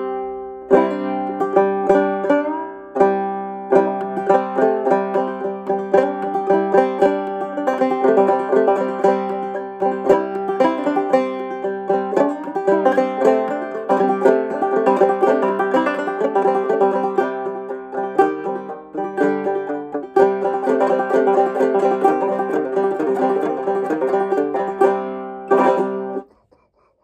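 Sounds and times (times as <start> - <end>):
banjo plucked notes: 0.0 - 26.7.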